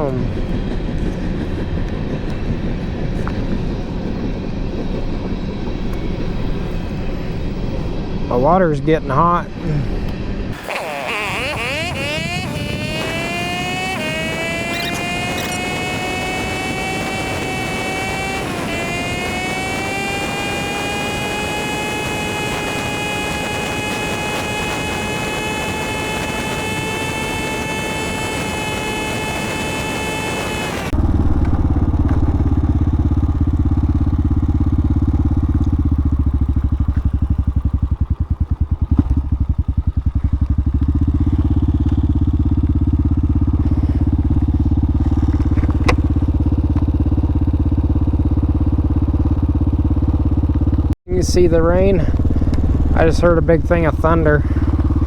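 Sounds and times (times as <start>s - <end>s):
deep engine rumble: 0.0s - 55.0s
motorcycle engine whining: 0.0s - 55.0s.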